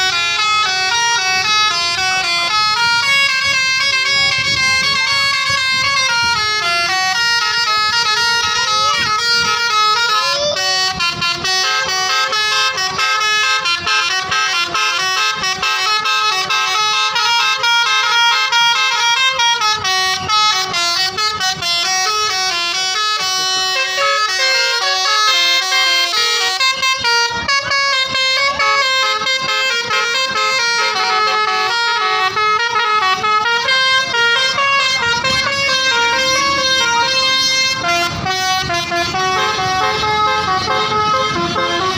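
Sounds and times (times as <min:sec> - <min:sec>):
multi-tone bus horn tune: 0:00.0 - 0:41.9.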